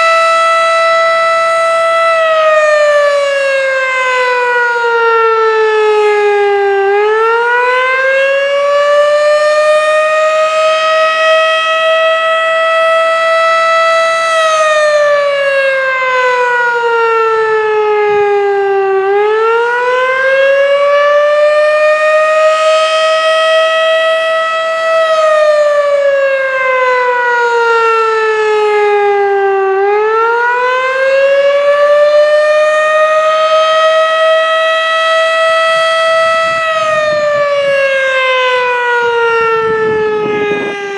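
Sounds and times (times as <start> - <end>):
tornado siren wailing: 0.0 - 40.9.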